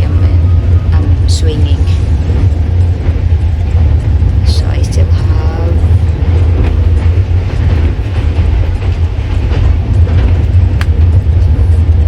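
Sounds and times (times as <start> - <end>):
train low rumble: 0.0 - 12.0
train wheels clicking: 0.0 - 12.0.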